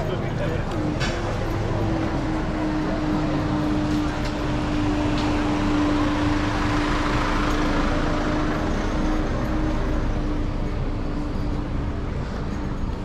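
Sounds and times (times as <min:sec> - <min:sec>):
traffic noise: 0:00.0 - 0:13.0
vehicle engine humming: 0:00.0 - 0:13.0.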